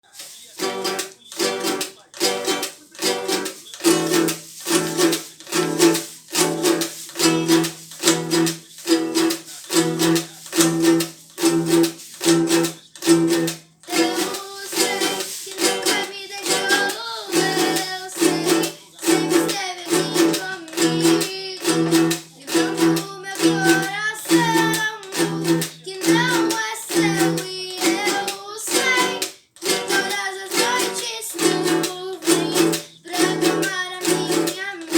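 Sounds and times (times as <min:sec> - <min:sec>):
person singing: 0:00.0 - 0:34.9
strummed acoustic string instrument: 0:00.0 - 0:34.9.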